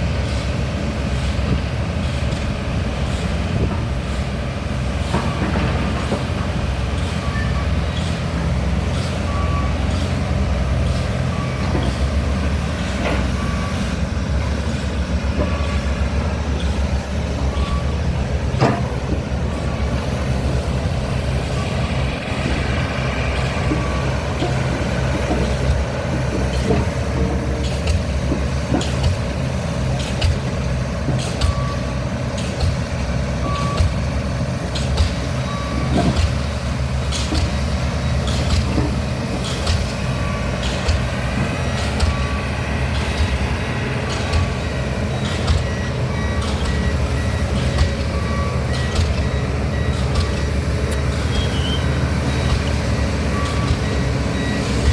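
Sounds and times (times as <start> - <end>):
low engine rumble: 0.0 - 54.9.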